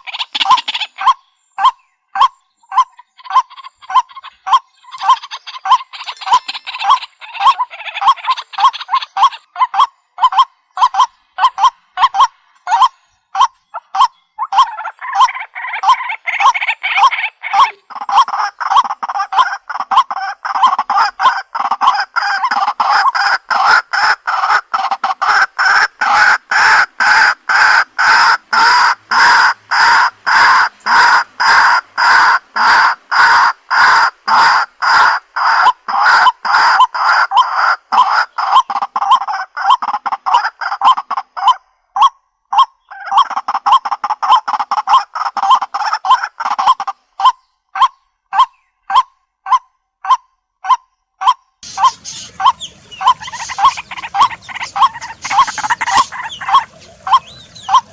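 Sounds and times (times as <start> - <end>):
waterhen calling: 0.0 - 57.9.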